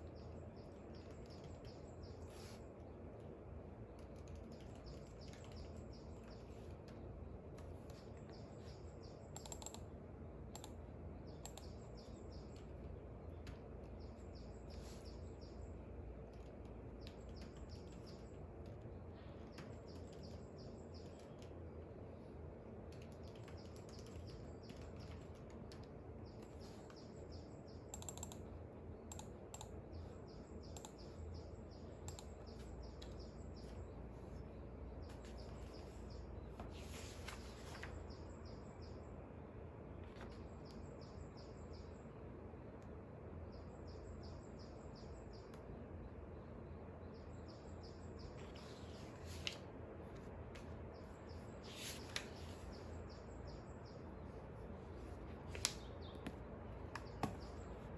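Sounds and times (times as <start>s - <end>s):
birds chirping: 10.5s - 57.9s.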